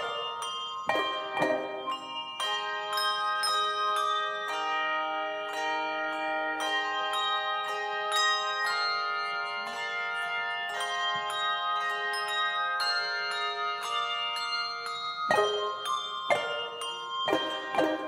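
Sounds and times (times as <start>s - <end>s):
handbells ringing: 0.0s - 18.0s.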